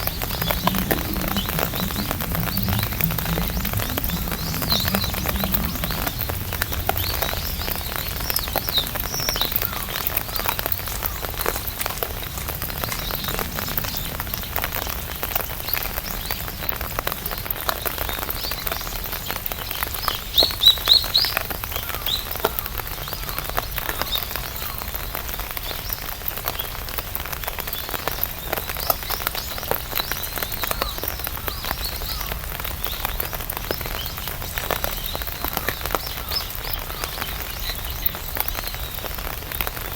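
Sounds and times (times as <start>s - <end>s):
birds chirping: 0.0s - 39.9s
rain tapping on an umbrella: 0.0s - 39.9s.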